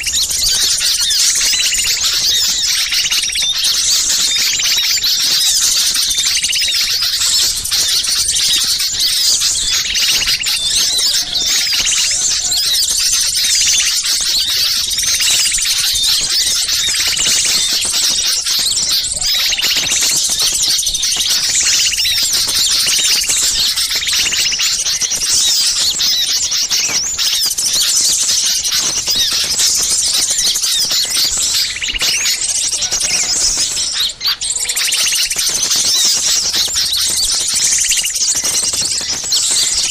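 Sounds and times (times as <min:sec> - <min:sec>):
small songbirds chattering: 0:00.0 - 0:39.9.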